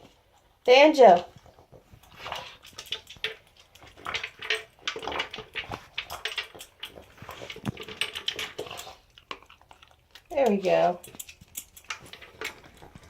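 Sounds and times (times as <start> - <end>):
dog crunching food: 1.3 - 13.0.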